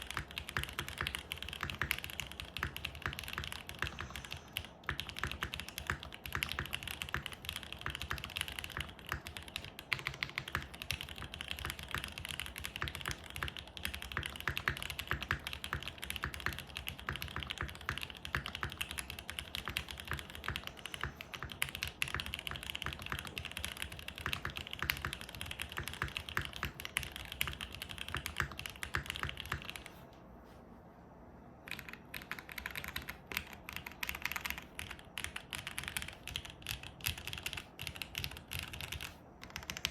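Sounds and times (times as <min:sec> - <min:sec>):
fast mechanical keyboard typing: 0:00.0 - 0:30.0, 0:31.6 - 0:39.9.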